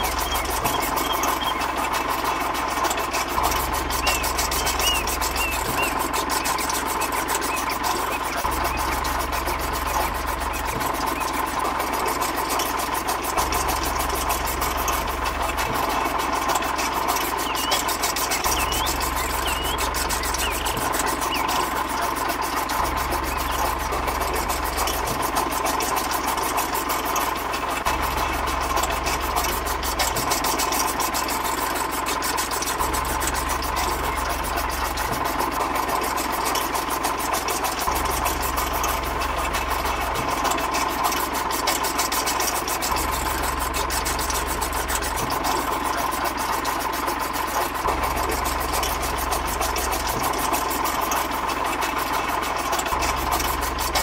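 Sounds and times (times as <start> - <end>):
small electric motor whining: 0.0 - 54.0.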